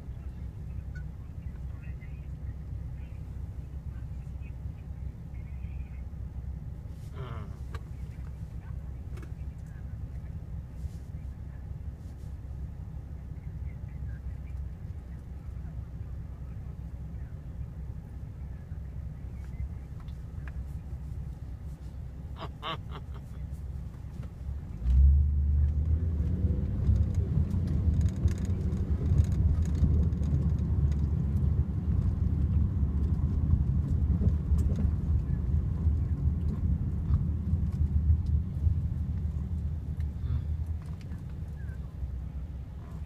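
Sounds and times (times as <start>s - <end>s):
car cabin rumble: 0.0s - 43.0s.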